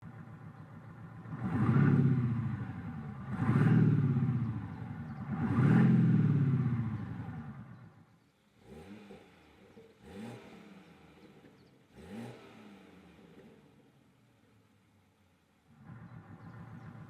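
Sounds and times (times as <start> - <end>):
car engine revving: 0.2 - 8.0, 8.6 - 13.8, 15.7 - 17.0.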